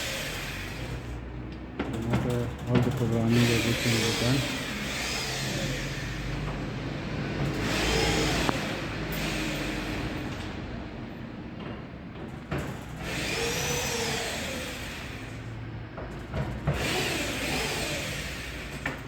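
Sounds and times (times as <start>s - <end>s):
garage door opener motor: 0.0s - 10.9s, 12.4s - 19.0s.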